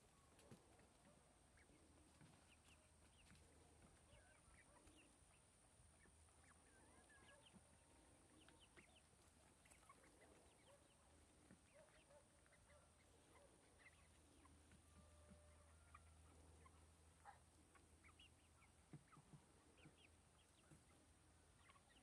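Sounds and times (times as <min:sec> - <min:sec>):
young chickens peeping: 0:00.0 - 0:22.0.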